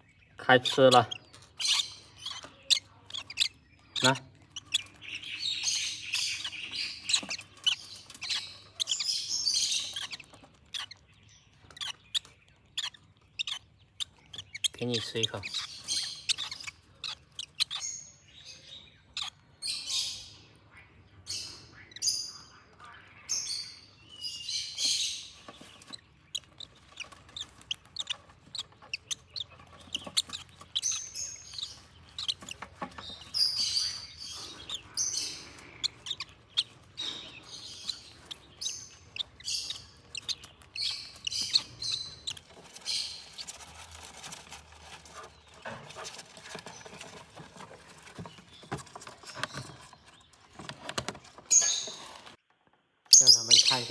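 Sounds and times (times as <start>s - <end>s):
parrot chicks chirping: 0.0s - 53.9s.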